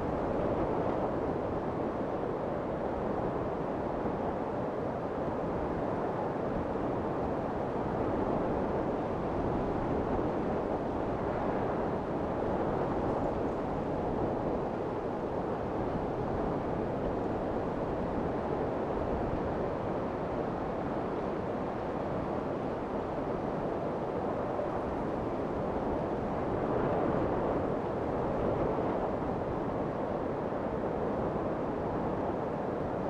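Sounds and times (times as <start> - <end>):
strong wind blowing: 0.0 - 33.0.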